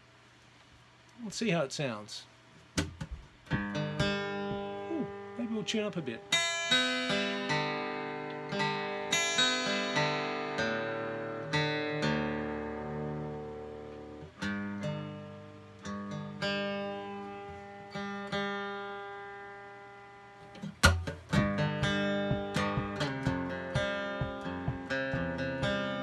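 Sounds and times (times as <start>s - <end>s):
acoustic guitar strings plucked: 2.8s - 19.8s, 20.4s - 26.0s
guitar strum: 2.8s - 26.0s.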